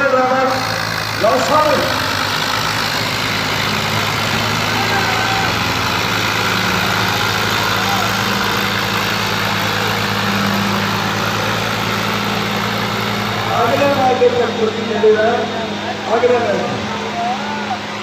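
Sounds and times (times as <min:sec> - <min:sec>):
tractor diesel engines droning: 0:00.0 - 0:18.0.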